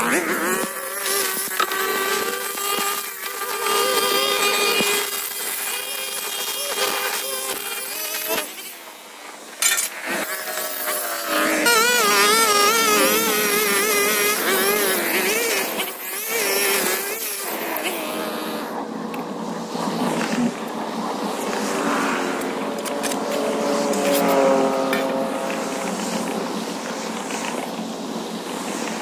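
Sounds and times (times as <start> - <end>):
string trimmer cutting grass: 0.0 - 27.8.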